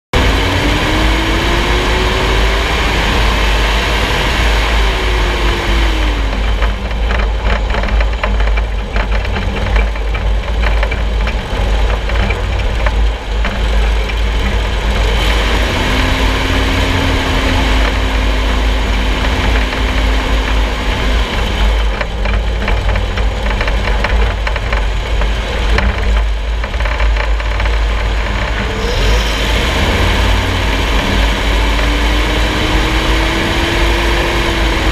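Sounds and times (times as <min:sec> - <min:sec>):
loud low road rumble: 0:00.0 - 0:34.9
engine drivetrain tones: 0:00.1 - 0:34.9
suspension knocking and rattling: 0:00.1 - 0:34.9.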